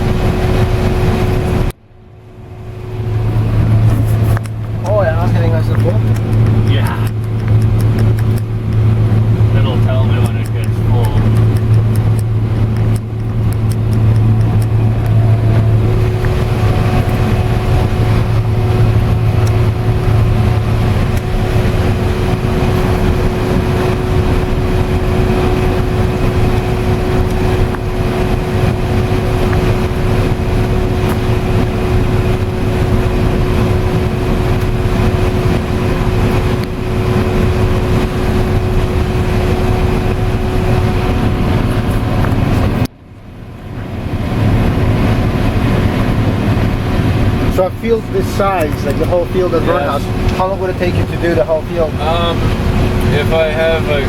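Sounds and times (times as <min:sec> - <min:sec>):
combine harvester droning: 0:00.0 - 0:54.0
constant machine whine: 0:00.0 - 0:54.0.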